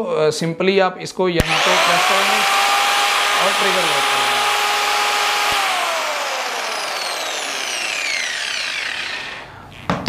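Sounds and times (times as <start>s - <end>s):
electric polisher motor whining: 1.4s - 9.8s.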